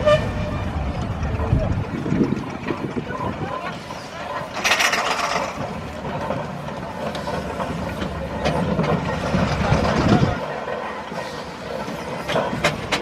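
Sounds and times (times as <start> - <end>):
steam traction engine rumble: 0.0 - 13.0.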